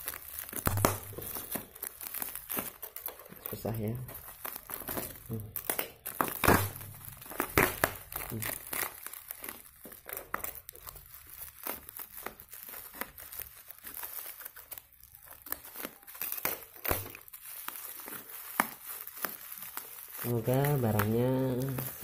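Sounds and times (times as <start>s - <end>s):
plastic wrapping crinkling and tearing: 0.0s - 22.0s.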